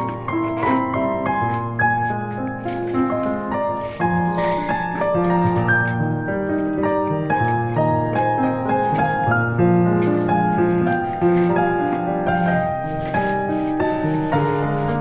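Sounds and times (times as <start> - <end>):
instrumental keyboard music: 0.0 - 15.0.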